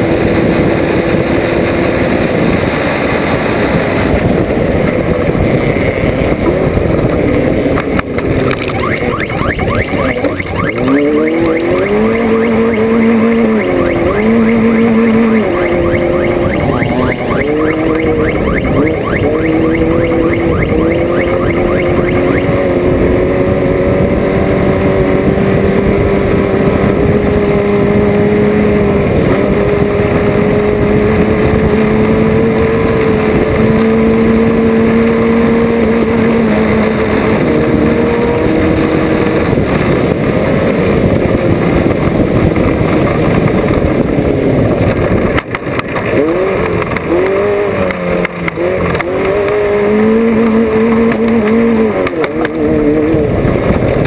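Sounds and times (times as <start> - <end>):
race vehicle engine under load: 0.0 - 54.0.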